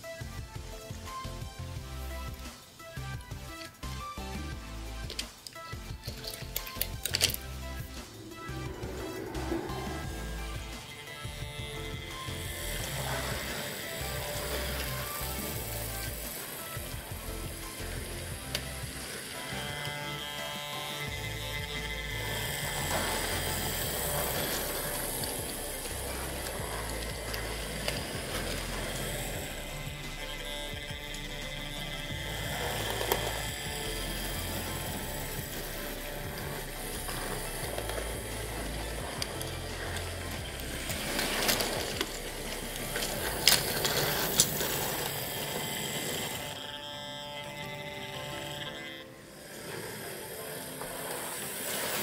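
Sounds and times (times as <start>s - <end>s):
model train rolling on track: 0.0s - 52.0s
wheels clicking over rail joints: 0.0s - 52.0s.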